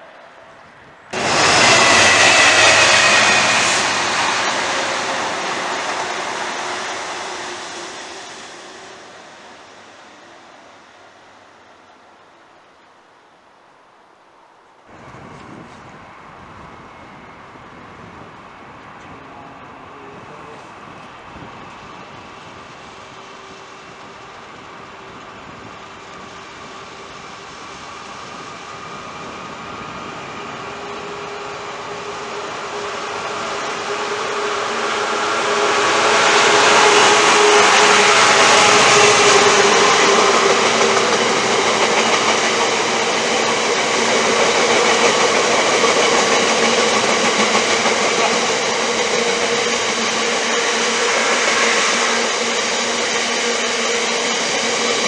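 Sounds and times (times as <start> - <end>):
train passing: 0.0 - 55.0
steady whining tone: 1.1 - 12.2, 14.9 - 55.0.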